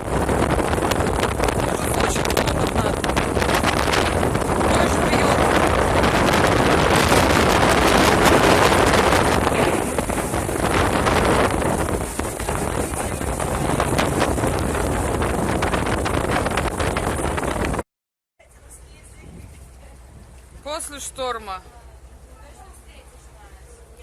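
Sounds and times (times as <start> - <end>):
storm wind buffeting microphone: 0.0 - 17.8, 18.9 - 20.8.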